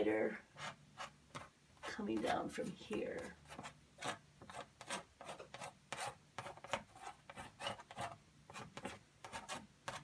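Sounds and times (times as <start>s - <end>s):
paint scraping on canvas: 0.5s - 10.0s.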